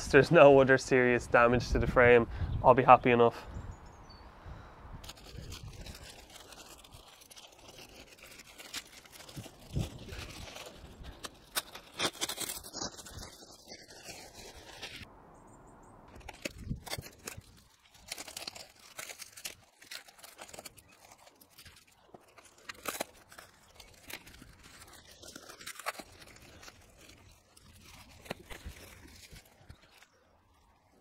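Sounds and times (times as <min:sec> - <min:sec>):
packaging crinkling and tearing: 0:05.0 - 0:15.1, 0:16.1 - 0:31.0.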